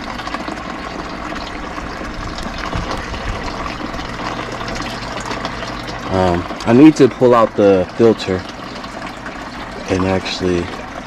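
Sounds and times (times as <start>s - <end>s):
steady low hum: 0.0s - 11.0s
water trickling and splashing: 0.0s - 11.0s.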